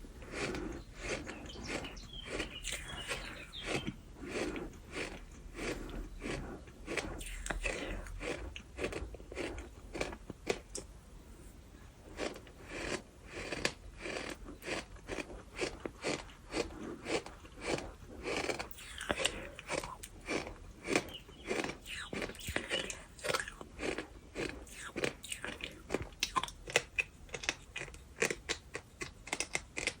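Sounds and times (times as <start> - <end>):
gritty crunches of chewing: 0.0 - 10.9, 11.8 - 30.0.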